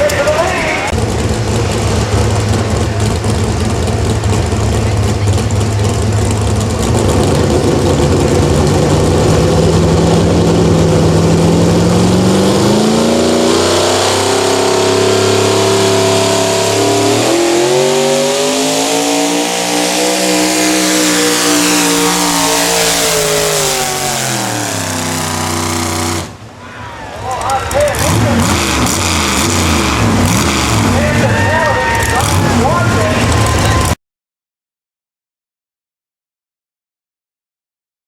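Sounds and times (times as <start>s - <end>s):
truck engine revving under load: 0.0s - 26.6s, 27.7s - 34.0s.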